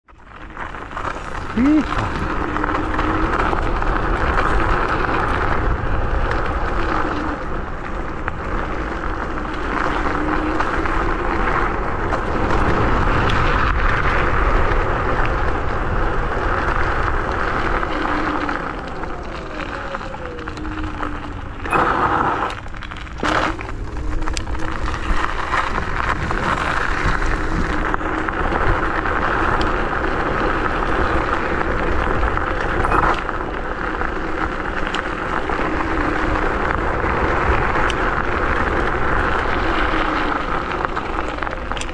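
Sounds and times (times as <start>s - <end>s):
tyres on gravel: 0.0s - 41.9s
electric motor whine: 0.8s - 13.8s, 16.3s - 41.9s.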